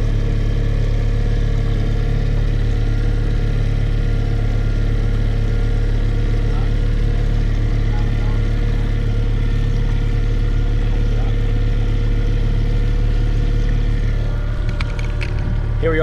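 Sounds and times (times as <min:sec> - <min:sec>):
outboard motor running steadily: 0:00.0 - 0:16.0.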